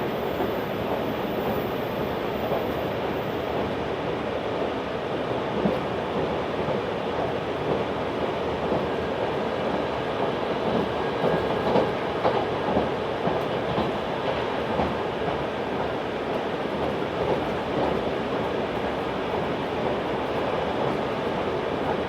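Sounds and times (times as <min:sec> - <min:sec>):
faint rail-joint clacks: 0:00.0 - 0:22.0
train wheels rumbling on rail: 0:00.0 - 0:22.0.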